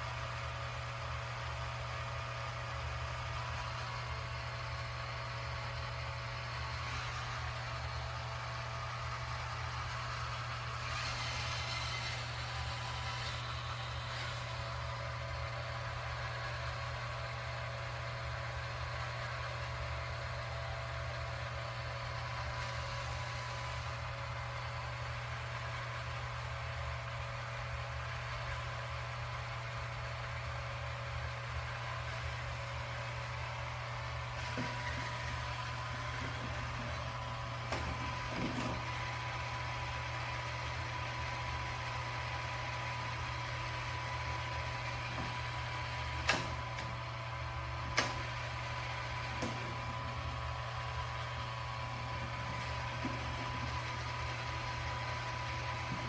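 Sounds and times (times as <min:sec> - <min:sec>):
robot vacuum motor hum: 0:02.7 - 0:25.8, 0:31.8 - 0:56.0.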